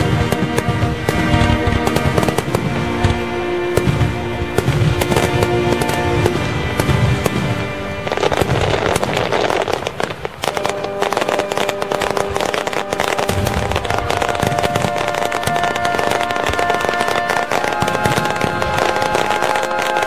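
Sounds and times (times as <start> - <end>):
fireworks booming and crackling: 0.0 - 20.0
music playing: 0.0 - 20.0.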